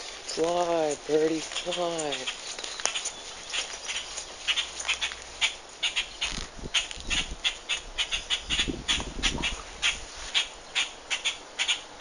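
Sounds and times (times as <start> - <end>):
bird chirping: 0.0 - 11.9.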